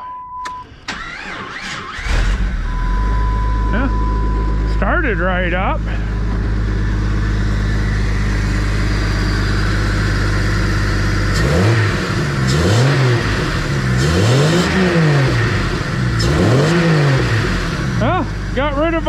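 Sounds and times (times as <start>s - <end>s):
car engine idling and revving: 0.5s - 19.0s.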